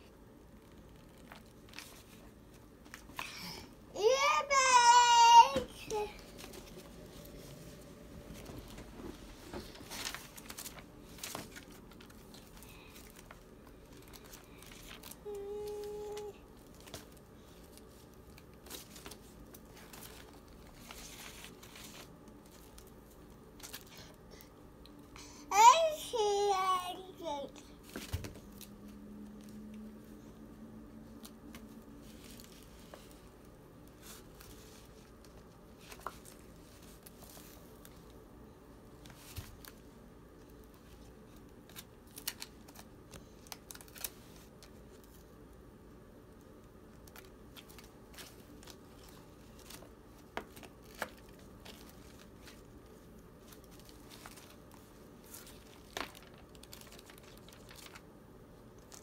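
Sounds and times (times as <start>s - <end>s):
book pages rustling and flicking: 0.5s - 24.2s, 26.2s - 45.7s, 46.6s - 59.0s.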